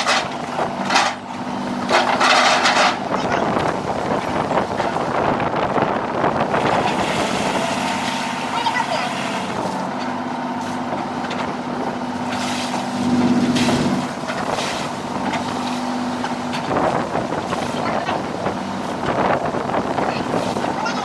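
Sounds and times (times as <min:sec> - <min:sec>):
boat engine humming: 0:00.0 - 0:21.0
water rushing: 0:00.0 - 0:21.0
wind: 0:00.0 - 0:21.0.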